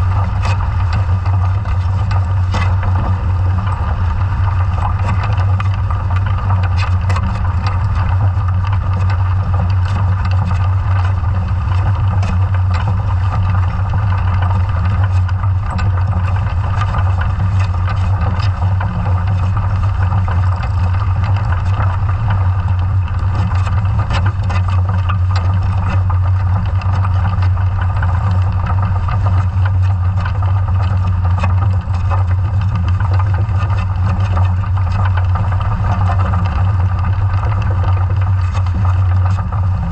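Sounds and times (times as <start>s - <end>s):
underwater low hum: 0.0s - 39.9s.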